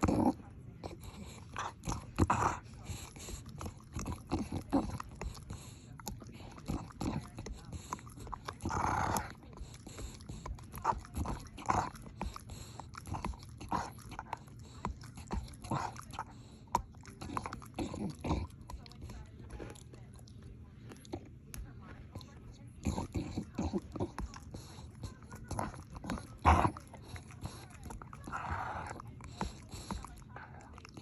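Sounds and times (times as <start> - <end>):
dog chewing on a toy: 0.0 - 31.0.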